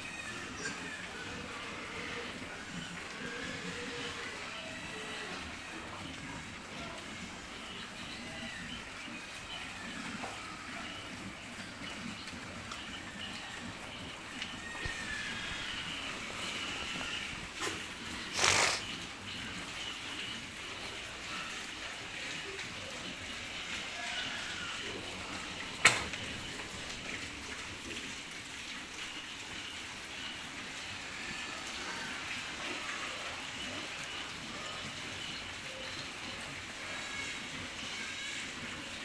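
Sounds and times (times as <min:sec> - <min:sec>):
pigs munching and snuffling: 0:00.0 - 0:39.0.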